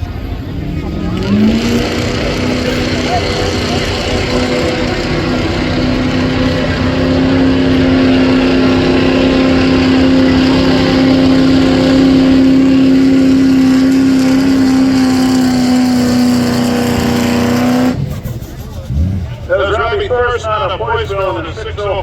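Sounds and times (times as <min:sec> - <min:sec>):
truck engine at full throttle: 0:00.0 - 0:22.0.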